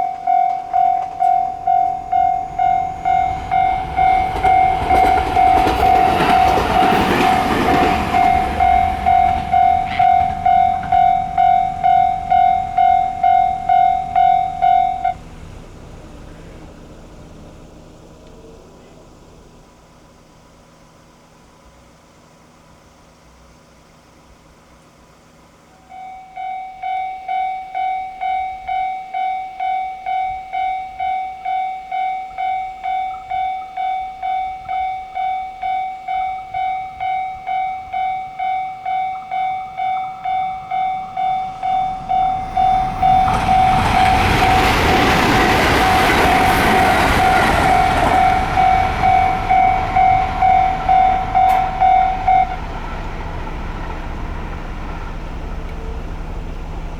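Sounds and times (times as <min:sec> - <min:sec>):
level-crossing alarm bell: 0:00.0 - 0:18.1, 0:25.6 - 0:56.9
train wheels rumbling on rails: 0:00.0 - 0:23.1, 0:23.9 - 0:56.9.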